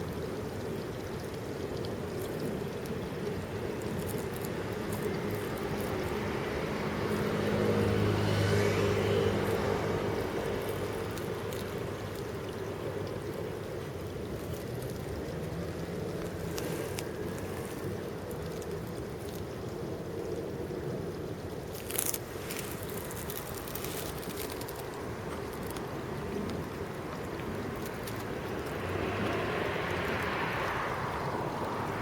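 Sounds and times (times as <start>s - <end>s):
water trickling: 0.0s - 32.0s
passing vehicle engine hum: 2.9s - 20.0s, 20.7s - 32.0s.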